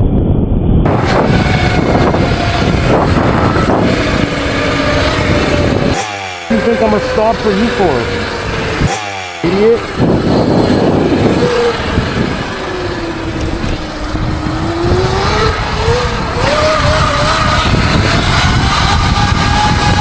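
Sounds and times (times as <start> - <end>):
wind noise rushing: 0.0 - 20.0
motorcycle engine running: 0.9 - 20.0.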